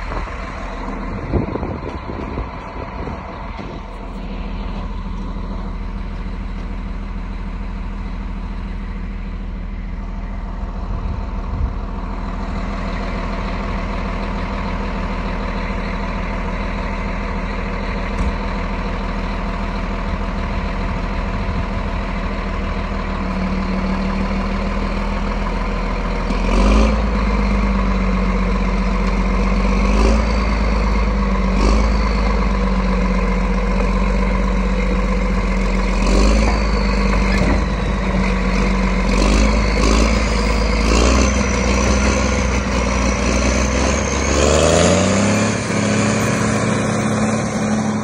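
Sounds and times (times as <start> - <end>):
bulldozer diesel engine: 0.0 - 48.0.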